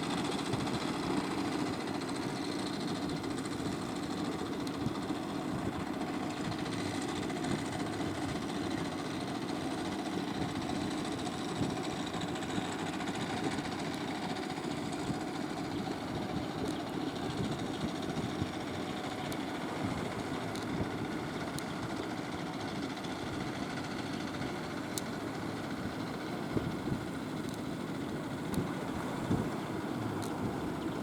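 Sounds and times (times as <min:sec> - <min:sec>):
boat engine running: 0:03.0 - 0:31.0.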